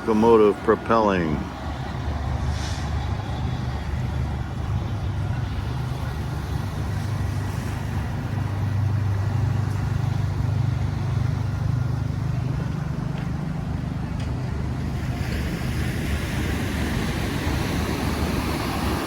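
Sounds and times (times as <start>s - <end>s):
locomotive engine drone: 0.0s - 19.0s.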